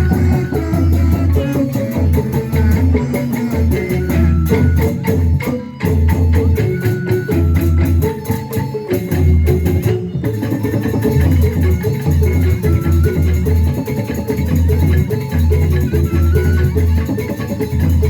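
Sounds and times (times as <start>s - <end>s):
pulsing bass: 0.0s - 8.2s, 9.1s - 18.0s
melodic instrument playing: 0.0s - 17.8s
drums and percussion beat: 0.0s - 18.0s.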